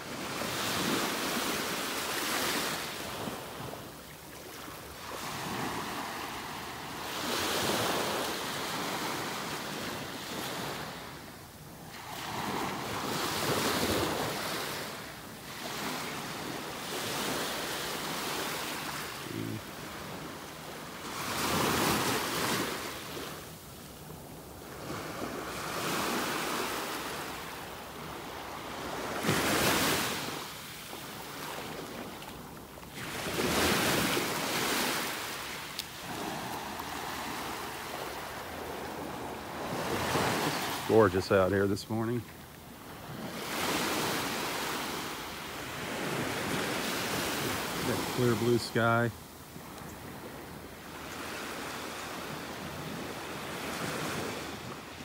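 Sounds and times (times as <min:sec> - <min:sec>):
small waves breaking on shore: 0:00.0 - 0:55.0.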